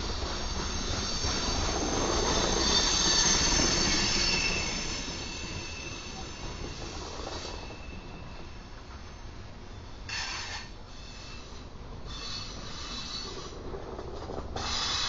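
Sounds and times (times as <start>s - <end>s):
train wheels squealing on rails: 0.0s - 13.7s, 14.6s - 15.0s
freight train rumbling past: 0.0s - 15.0s.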